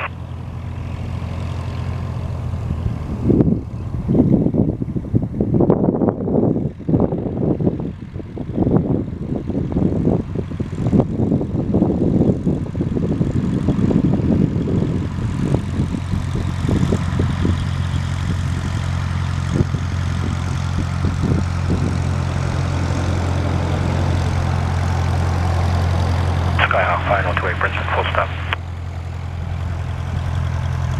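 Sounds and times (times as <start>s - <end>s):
propeller plane engine droning: 0.0s - 30.9s.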